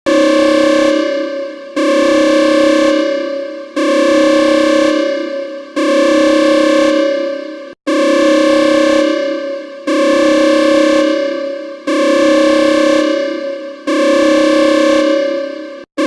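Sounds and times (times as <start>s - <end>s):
electronic alarm horn-like blasts: 0.1s - 16.0s.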